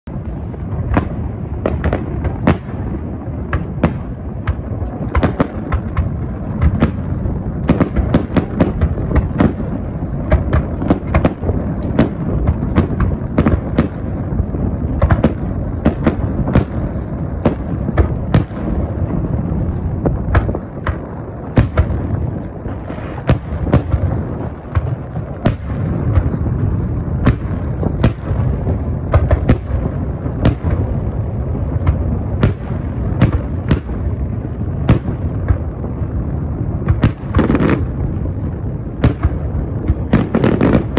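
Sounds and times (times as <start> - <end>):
continuous low rumble: 0.0 - 40.9
firework shells bursting: 0.2 - 40.9.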